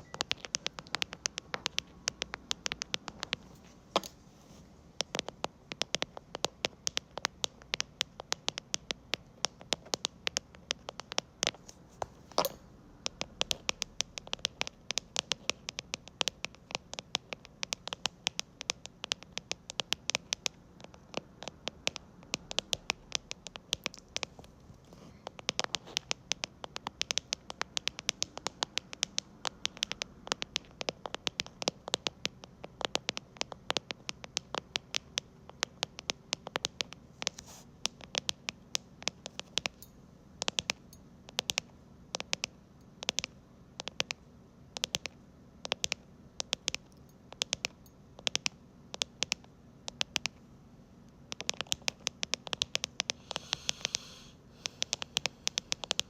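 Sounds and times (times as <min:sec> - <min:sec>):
keyboard keys clicking: 0:00.0 - 0:04.2, 0:05.0 - 0:11.6, 0:12.4 - 0:44.2, 0:44.8 - 0:50.4, 0:51.3 - 0:56.0.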